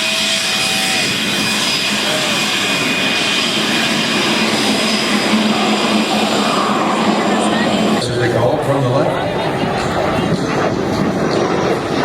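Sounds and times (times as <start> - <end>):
airplane propeller engine overhead: 0.0 - 12.0.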